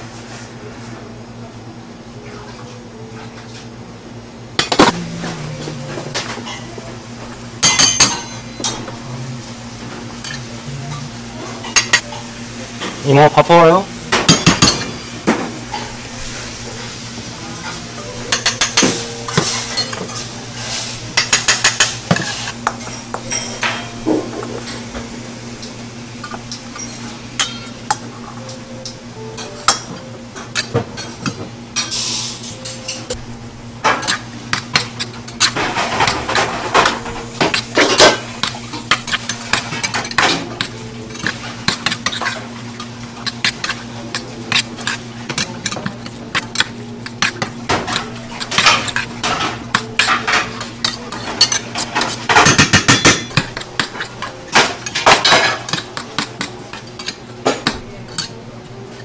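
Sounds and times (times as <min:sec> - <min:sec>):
steady low hum: 0:00.0 - 0:59.0
dishes and utensils clattering: 0:04.6 - 0:07.0, 0:07.6 - 0:09.1, 0:09.8 - 0:13.0, 0:14.1 - 0:16.3, 0:17.6 - 0:25.0, 0:25.6 - 0:33.2, 0:33.8 - 0:58.4.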